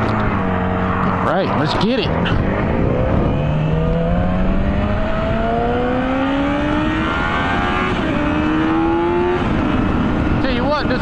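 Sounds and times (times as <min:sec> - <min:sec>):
motorcycle engine accelerating: 0:00.0 - 0:11.0
wind rush on microphone: 0:00.0 - 0:11.0.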